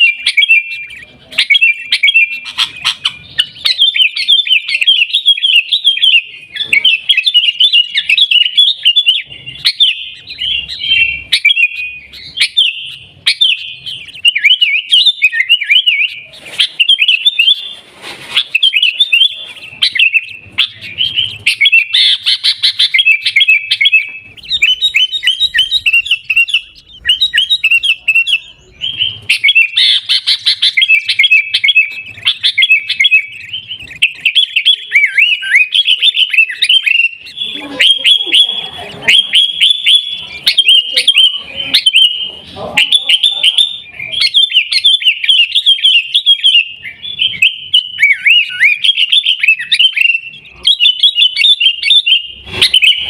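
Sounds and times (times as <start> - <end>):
bird chirping: 0.0 - 53.0.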